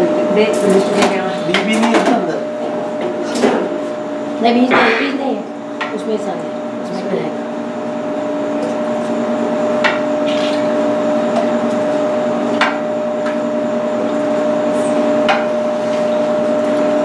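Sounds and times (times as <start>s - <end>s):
machine hum with held tones: 0.0s - 17.0s.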